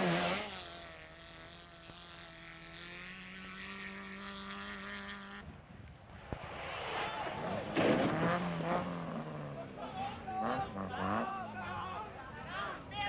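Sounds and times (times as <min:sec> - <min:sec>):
racing car engine humming: 0:00.0 - 0:13.0.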